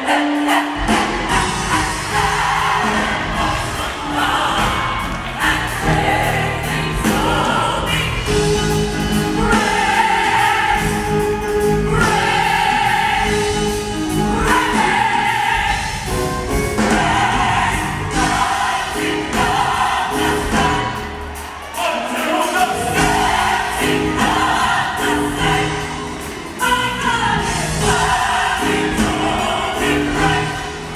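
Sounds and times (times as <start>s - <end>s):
gospel choir singing: 0.0s - 30.9s.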